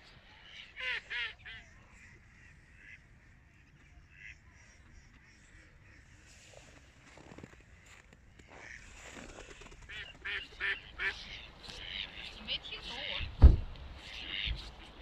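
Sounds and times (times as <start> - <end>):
ducks quacking: 0.0 - 13.4, 14.0 - 15.0.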